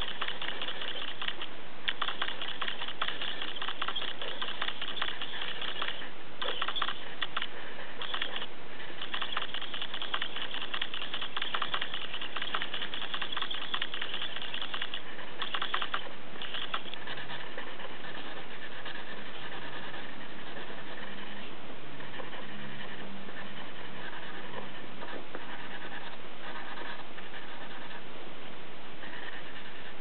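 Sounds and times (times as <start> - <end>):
marker scratching on paper: 0.0 - 28.0, 29.0 - 30.0.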